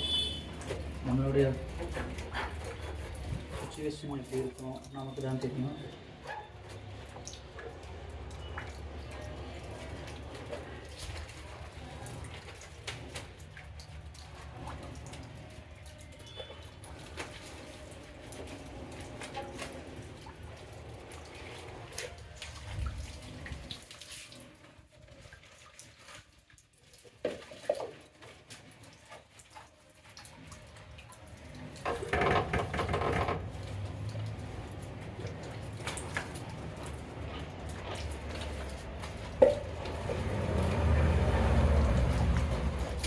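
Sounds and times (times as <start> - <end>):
water splashing and dripping: 0.0 - 43.0.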